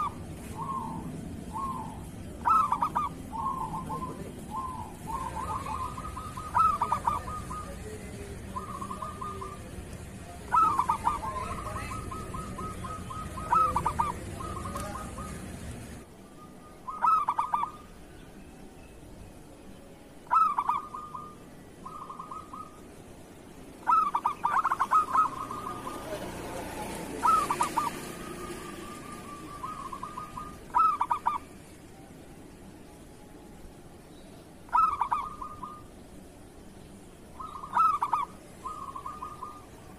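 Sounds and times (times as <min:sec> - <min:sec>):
doves cooing: 0:00.0 - 0:18.1, 0:20.2 - 0:31.8, 0:34.6 - 0:36.1, 0:37.2 - 0:39.9.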